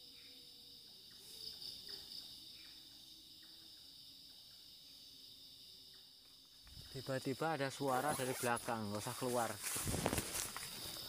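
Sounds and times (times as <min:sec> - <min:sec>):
faint night insects chorus: 0:00.0 - 0:11.0.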